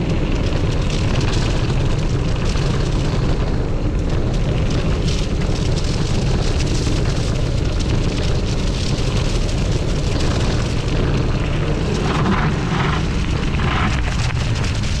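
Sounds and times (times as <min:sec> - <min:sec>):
bike tyres crackling over leaves: 0:00.0 - 0:15.0
wind buffeting microphone: 0:00.0 - 0:15.0.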